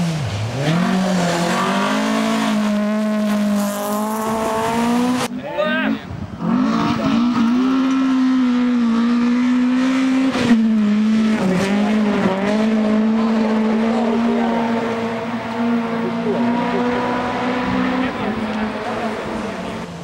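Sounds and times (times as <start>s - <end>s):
rally car engine at high revs: 0.0s - 5.3s, 6.3s - 20.0s.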